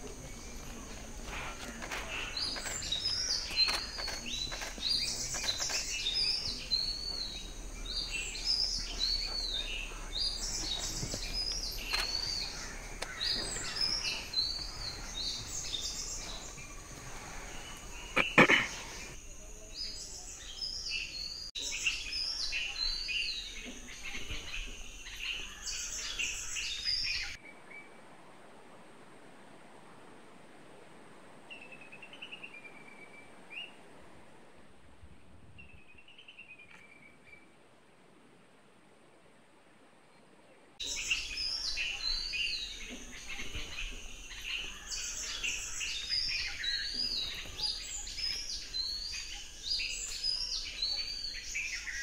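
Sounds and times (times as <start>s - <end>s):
forest birds chirping: 0.0s - 28.5s, 30.9s - 52.0s.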